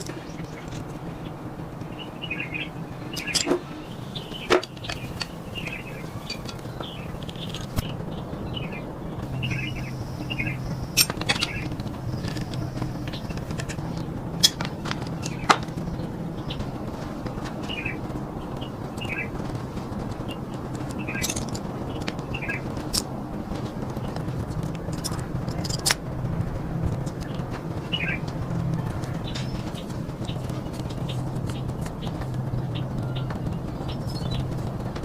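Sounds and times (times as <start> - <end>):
small birds chirping: 0.0 - 35.0
steady low hum: 0.0 - 35.0.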